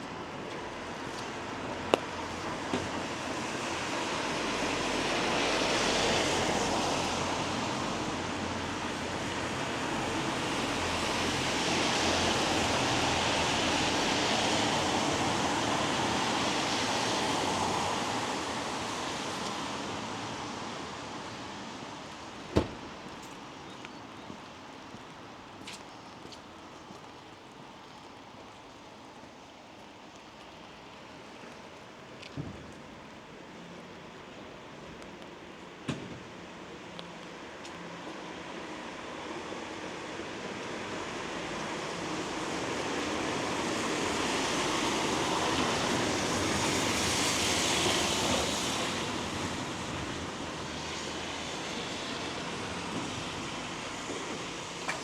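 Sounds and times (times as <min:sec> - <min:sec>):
tyres hissing on wet road: 0:00.0 - 0:55.0.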